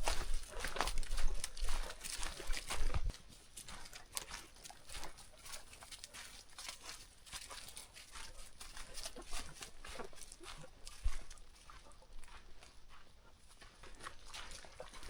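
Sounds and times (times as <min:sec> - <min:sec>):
footsteps on rocky trail: 0:00.0 - 0:15.0.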